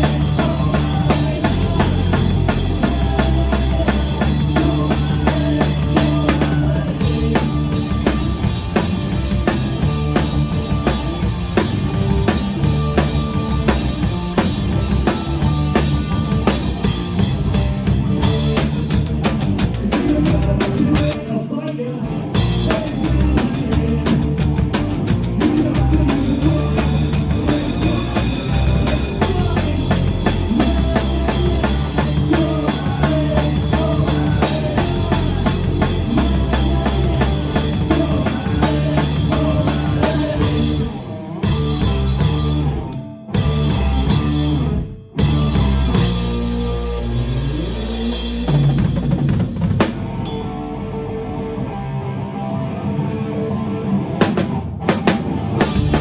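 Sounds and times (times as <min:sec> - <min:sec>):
live band playing: 0:00.0 - 0:21.3, 0:22.3 - 0:51.0, 0:54.2 - 0:56.0
drum kit bass drum and snare: 0:00.0 - 0:21.8, 0:22.4 - 0:50.4, 0:54.2 - 0:56.0.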